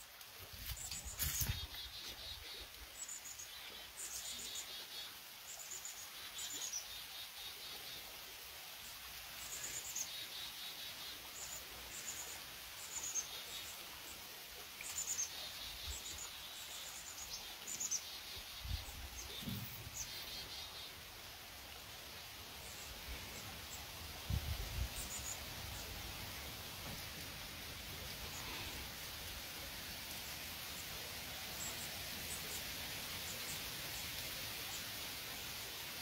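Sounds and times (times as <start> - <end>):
faint outdoor hiss: 0.0 - 36.0.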